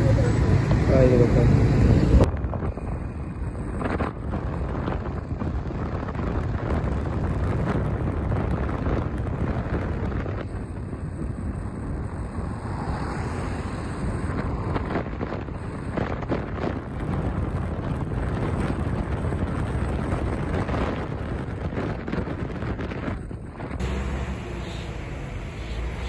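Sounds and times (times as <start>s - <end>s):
road and traffic noise: 0.0s - 26.0s
wind rushing over microphone: 0.0s - 26.0s.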